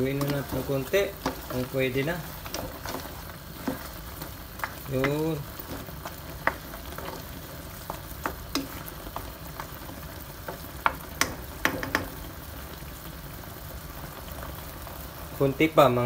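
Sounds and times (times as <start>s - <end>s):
sauce bubbling and sizzling in pot: 0.0s - 16.0s.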